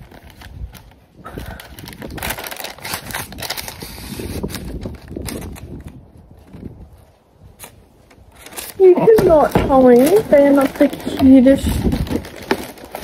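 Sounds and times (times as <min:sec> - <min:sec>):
tissue paper rustling and crinkling: 0:00.0 - 0:13.0.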